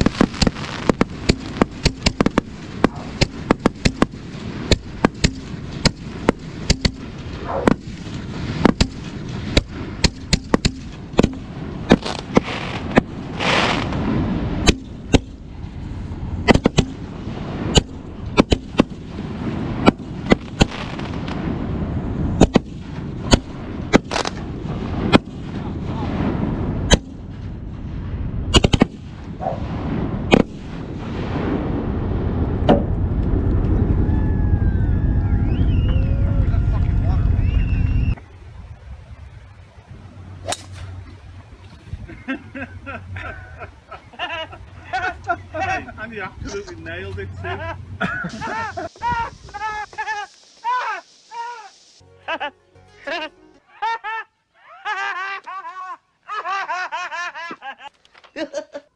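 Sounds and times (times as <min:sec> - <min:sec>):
firework hiss: 0:00.0 - 0:34.4, 0:35.3 - 0:52.5
fireworks bangs: 0:00.0 - 0:52.0.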